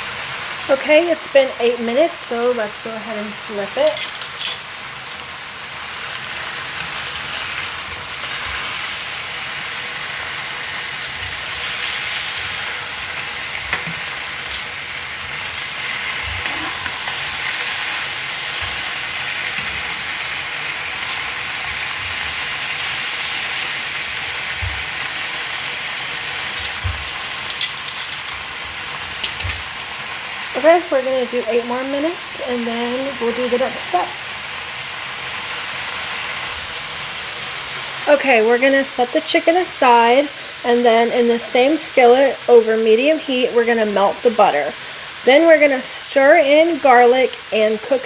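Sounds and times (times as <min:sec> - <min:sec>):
meat sizzling in a skillet: 0:00.0 - 0:48.0.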